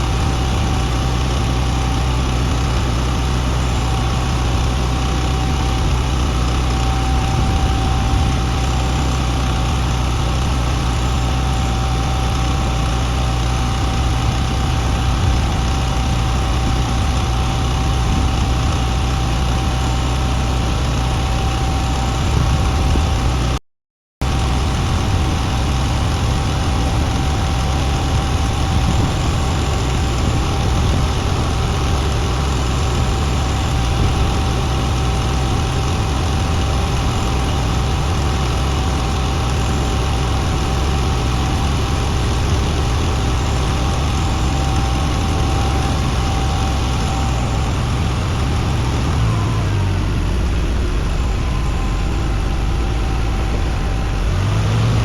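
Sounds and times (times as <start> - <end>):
engine idling with whine: 0.0 - 23.6, 24.2 - 55.0.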